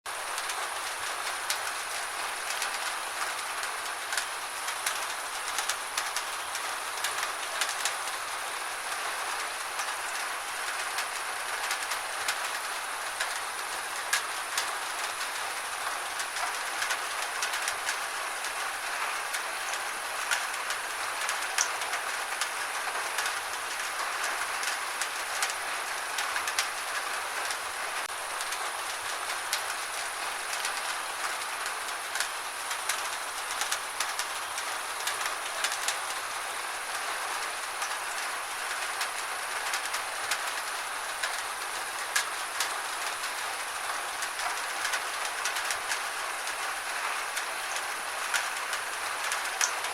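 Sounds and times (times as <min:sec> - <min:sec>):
gentle steady rain hiss: 0:00.1 - 0:49.9.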